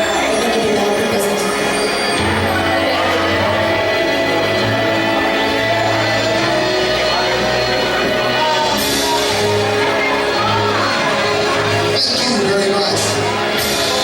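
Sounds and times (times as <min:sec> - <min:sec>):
music with bass line and chords: 0:02.2 - 0:14.0.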